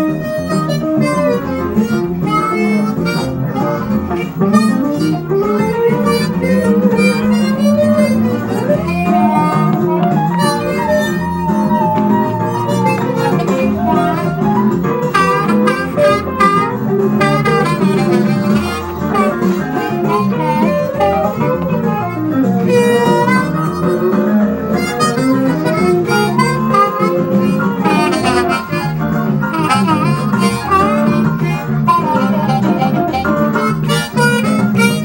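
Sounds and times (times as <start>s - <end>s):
blues harmonica: 0.0s - 35.0s
funk band track with guitar: 0.0s - 35.0s.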